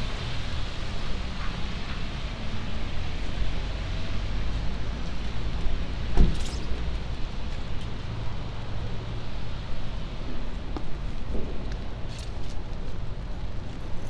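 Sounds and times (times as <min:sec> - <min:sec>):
low traffic rumble: 0:00.0 - 0:14.0
wet street hiss: 0:00.0 - 0:14.0.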